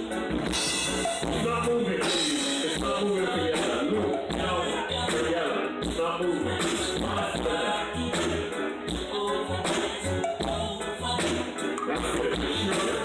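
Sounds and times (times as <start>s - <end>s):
live band with singing: 0.0s - 13.0s.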